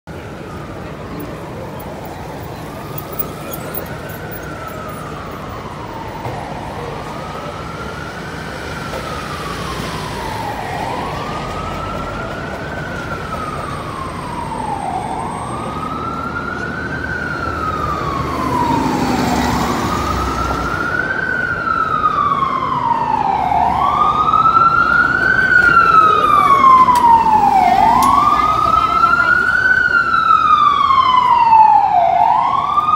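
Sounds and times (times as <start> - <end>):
city traffic noise: 0.0 - 32.9
siren wailing: 1.4 - 32.9.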